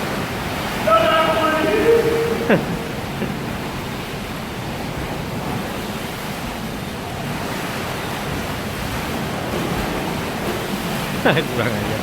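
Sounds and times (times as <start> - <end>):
pool water sloshing: 0.0 - 12.0.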